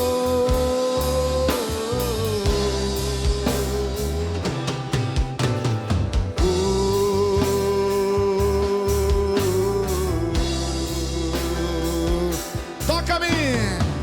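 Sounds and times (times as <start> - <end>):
bass line: 0.0 - 14.0
drums: 0.0 - 14.0.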